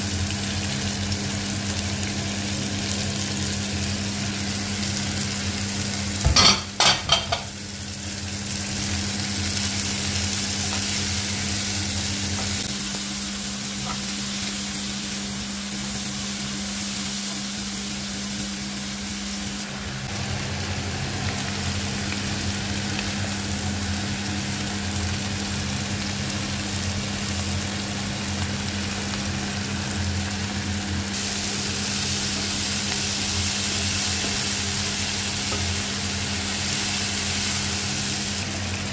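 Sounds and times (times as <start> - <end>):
food sizzling in frying pan: 0.0 - 38.9.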